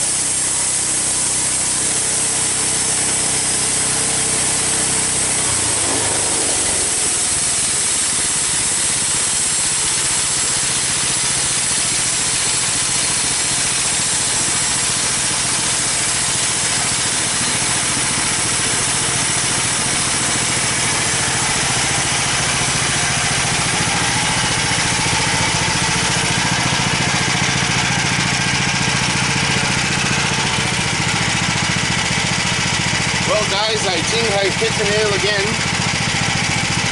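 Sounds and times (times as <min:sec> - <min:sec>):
saw blade hiss: 0:00.0 - 0:36.8
sawmill engine running: 0:00.0 - 0:36.9.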